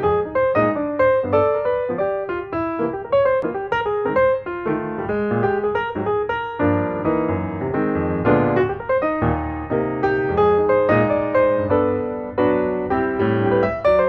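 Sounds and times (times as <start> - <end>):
lively piano music: 0.0 - 14.0.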